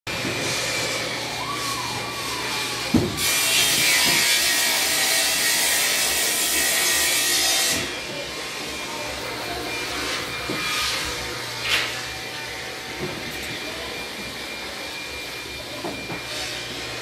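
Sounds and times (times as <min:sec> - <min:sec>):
power tool hissing and rasping: 0:00.1 - 0:17.0
workshop machinery droning: 0:00.1 - 0:17.0.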